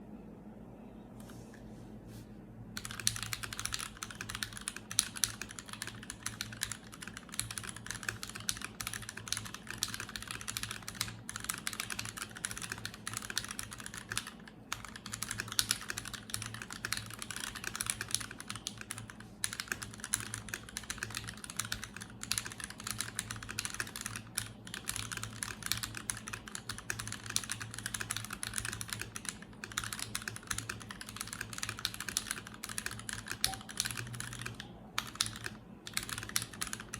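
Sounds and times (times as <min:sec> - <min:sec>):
fast typing on mechanical keyboard: 0:02.8 - 0:36.9.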